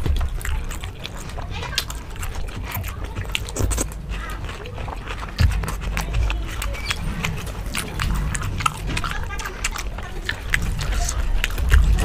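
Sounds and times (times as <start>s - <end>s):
chewing with mouth clicks and smacks: 0.0s - 12.0s.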